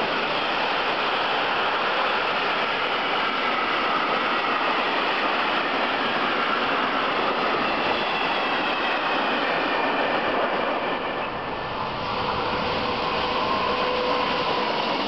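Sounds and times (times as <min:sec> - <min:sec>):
freight train wagons on track: 0:00.0 - 0:15.0.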